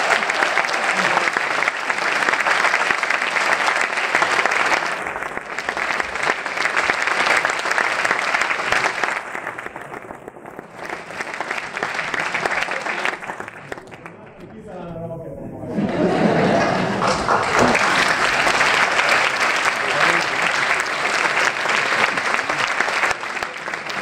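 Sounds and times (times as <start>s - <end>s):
audience applauding: 0.0s - 14.9s, 15.6s - 24.0s.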